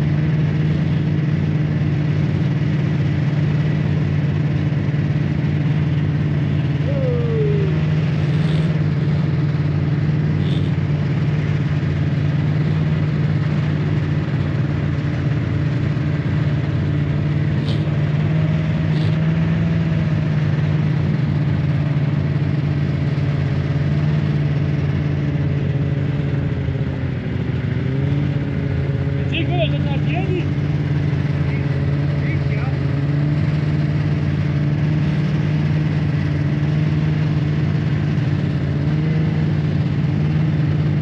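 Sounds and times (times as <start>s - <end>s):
snowmobile engine running: 0.0s - 41.0s.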